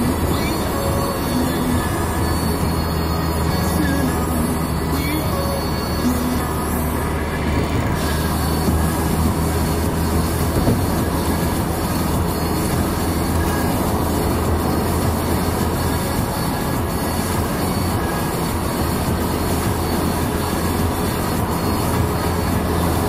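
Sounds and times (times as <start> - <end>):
low engine drone: 0.0 - 23.0
tyre and road noise: 0.0 - 23.0.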